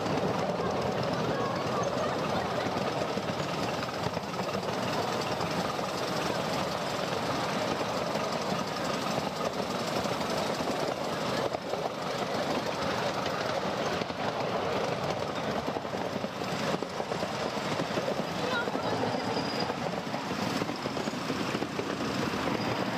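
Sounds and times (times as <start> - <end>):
train wheels clattering on rails: 0.0 - 22.9.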